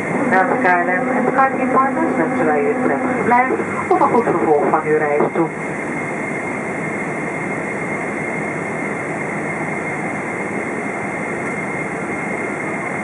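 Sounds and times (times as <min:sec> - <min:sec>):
airplane cabin engine rush: 0:00.0 - 0:13.0.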